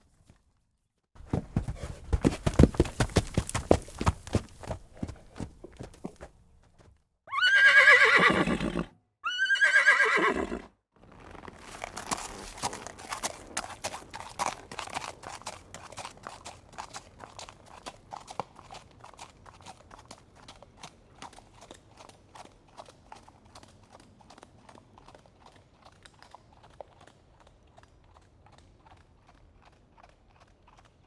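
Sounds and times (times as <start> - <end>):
horse hooves clip-clopping: 1.2 - 8.1, 11.1 - 31.0.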